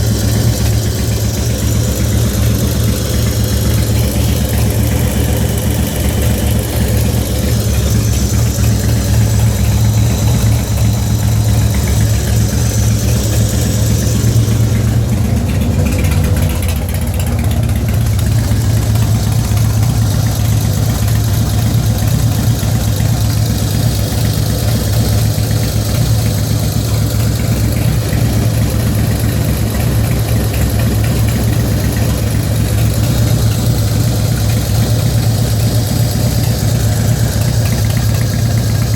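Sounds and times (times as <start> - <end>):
engine ticking: 0.0 - 38.9
motorcycle engine idling: 0.0 - 38.9.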